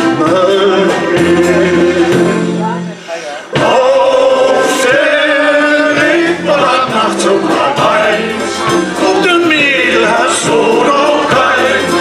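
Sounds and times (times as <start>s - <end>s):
male choir singing with band: 0.0s - 2.6s, 3.5s - 12.0s
accordion: 0.0s - 12.0s.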